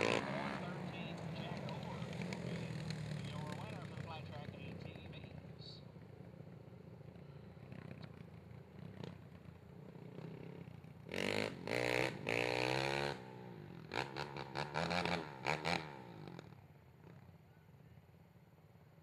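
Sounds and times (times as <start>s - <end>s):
atv engine idling and revving: 0.0s - 19.0s.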